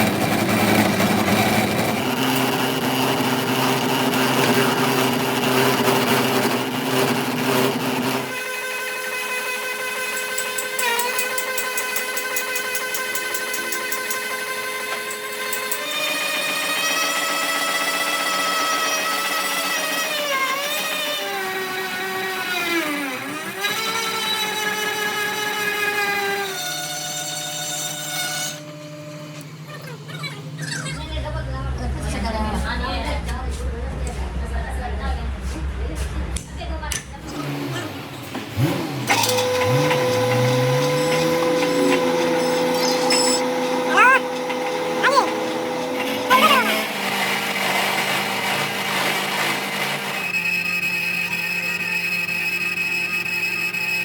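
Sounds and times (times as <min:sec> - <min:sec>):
power tool whine: 0:00.0 - 0:29.7, 0:37.3 - 0:54.0.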